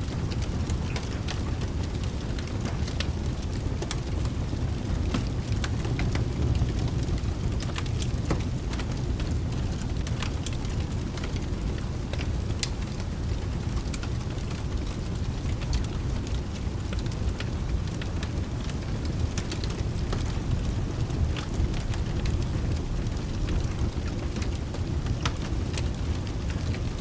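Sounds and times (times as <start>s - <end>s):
rain rushing: 0.0s - 27.0s
wood fire crackling: 0.0s - 27.0s.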